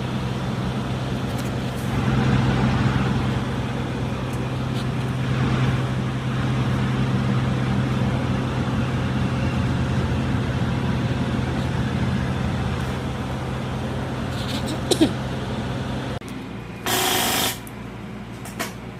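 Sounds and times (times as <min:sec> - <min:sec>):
heavy engine droning steadily: 0:00.0 - 0:18.9.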